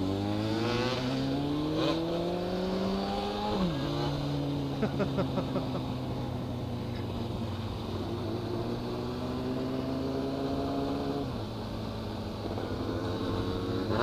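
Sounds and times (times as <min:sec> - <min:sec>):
motorcycle engine: 0:00.0 - 0:14.0.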